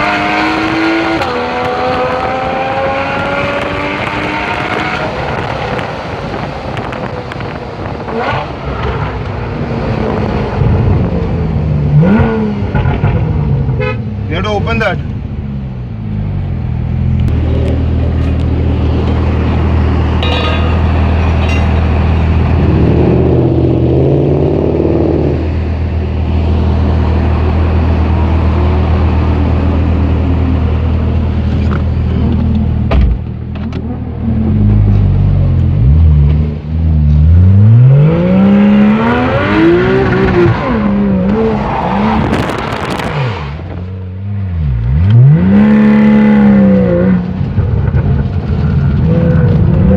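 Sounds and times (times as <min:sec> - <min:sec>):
car engine revving: 0:00.0 - 0:13.8, 0:14.4 - 0:49.9.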